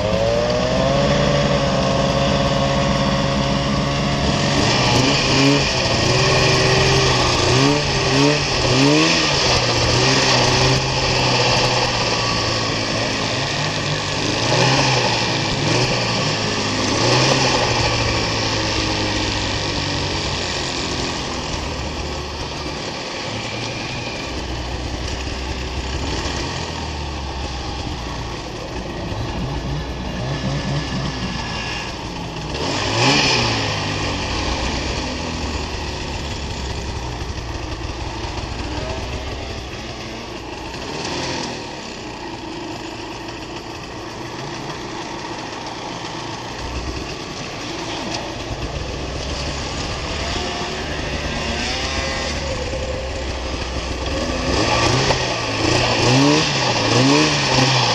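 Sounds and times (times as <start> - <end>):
snowmobile engine revving: 0.0 - 57.9.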